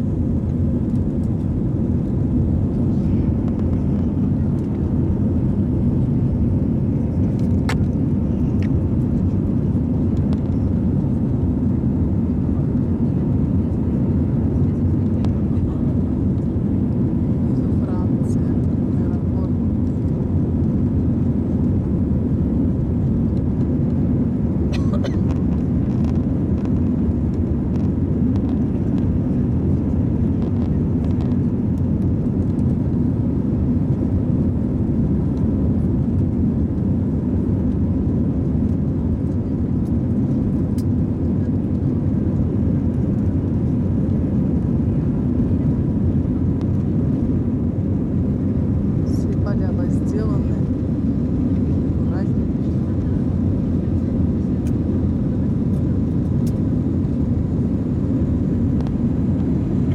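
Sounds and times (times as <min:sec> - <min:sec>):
airliner cabin engine noise: 0:00.0 - 0:59.9.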